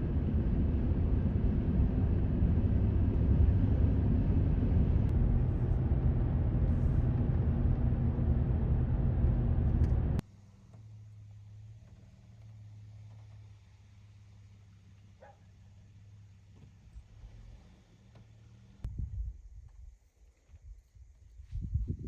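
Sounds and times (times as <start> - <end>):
vehicle engine rumble: 0.0 - 19.7
faint low hum: 0.0 - 22.0.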